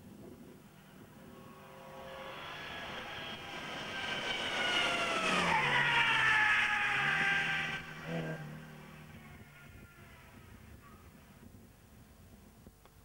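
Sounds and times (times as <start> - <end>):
rally car engine passing: 0.7 - 11.2.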